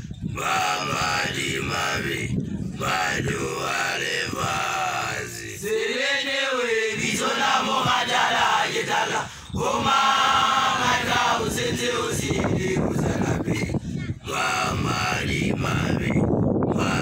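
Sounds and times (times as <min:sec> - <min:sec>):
male voices chanting together: 0:00.3 - 0:17.0.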